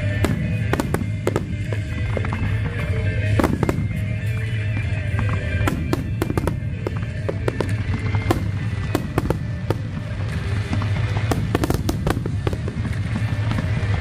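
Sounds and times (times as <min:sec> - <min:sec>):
continuous low rumble: 0:00.0 - 0:14.0
fireworks bangs: 0:00.0 - 0:14.0.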